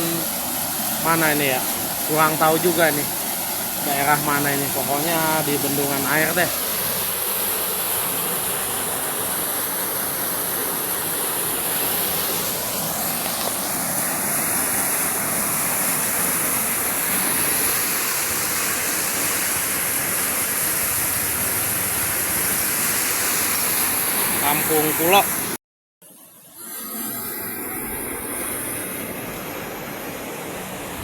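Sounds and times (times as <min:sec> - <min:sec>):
water rushing over a weir: 0:00.0 - 0:25.6.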